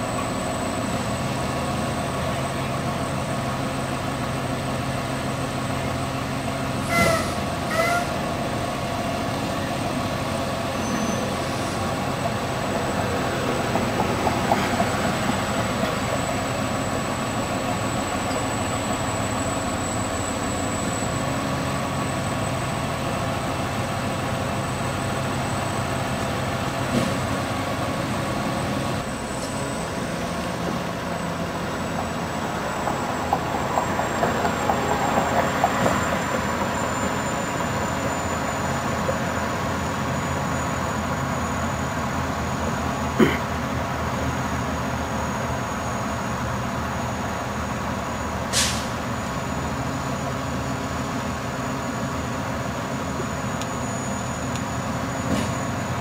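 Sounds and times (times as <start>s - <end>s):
garbage truck diesel engine running: 0.0s - 56.0s.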